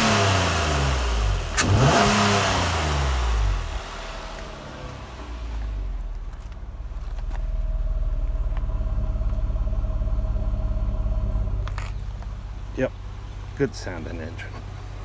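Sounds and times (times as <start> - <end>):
car engine at raised revs: 0.0 - 15.0.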